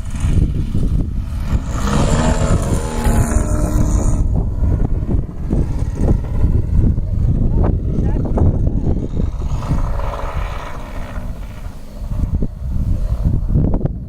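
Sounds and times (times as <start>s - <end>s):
model plane engine and propeller: 0.0s - 14.0s
wind rumbling on microphone: 0.0s - 14.0s.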